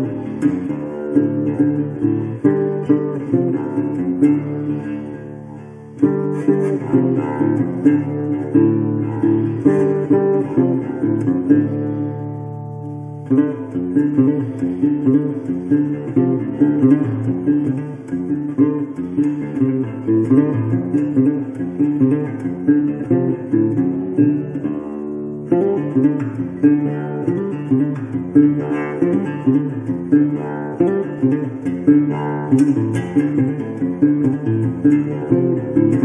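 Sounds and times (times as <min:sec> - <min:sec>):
acoustic guitar music: 0:00.0 - 0:36.0.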